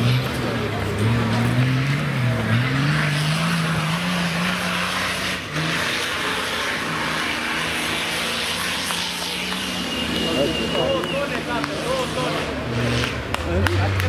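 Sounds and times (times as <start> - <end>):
off-road engine running hard: 0.0 - 14.0.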